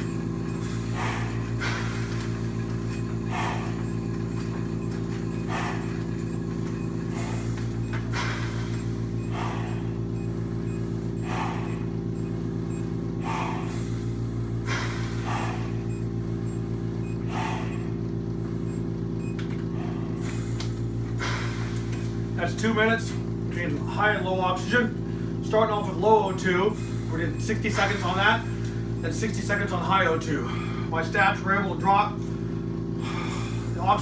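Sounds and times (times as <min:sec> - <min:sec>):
heavy breathing: 0:00.0 - 0:22.4, 0:24.9 - 0:31.1, 0:32.2 - 0:34.0
mechanical hum: 0:00.0 - 0:34.0.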